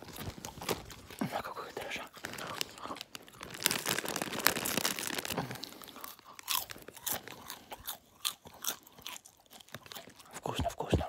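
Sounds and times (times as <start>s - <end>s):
mouth chewing crunchy popcorn: 0.0s - 11.0s.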